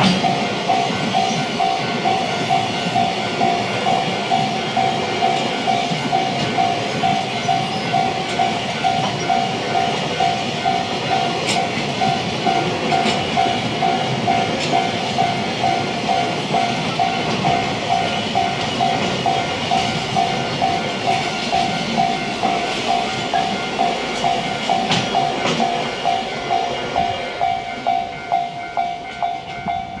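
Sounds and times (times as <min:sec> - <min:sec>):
level-crossing warning bell ringing: 0:00.0 - 0:30.0
train rumbling past: 0:00.0 - 0:30.0.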